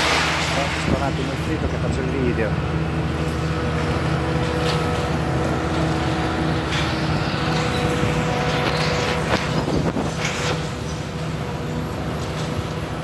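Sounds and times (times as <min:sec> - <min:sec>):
concrete cracking and crunching: 0:00.0 - 0:02.4, 0:03.2 - 0:11.4
diesel engine running: 0:00.0 - 0:13.0
steady whine: 0:00.0 - 0:13.0.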